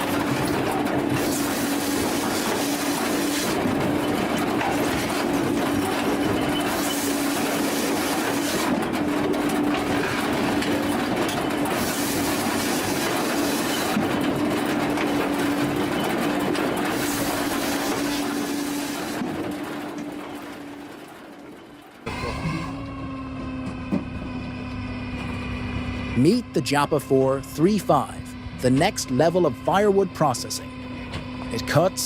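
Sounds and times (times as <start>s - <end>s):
machinery droning: 0.0s - 32.0s.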